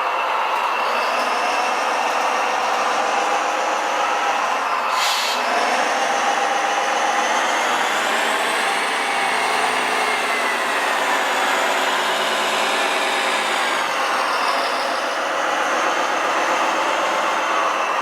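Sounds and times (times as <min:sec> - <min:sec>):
small electric motors and gears whining: 0:00.2 - 0:18.0.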